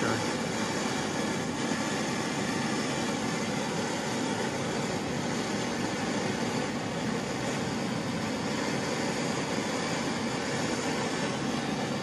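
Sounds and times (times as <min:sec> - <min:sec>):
gas torch hissing: 0:00.0 - 0:12.0.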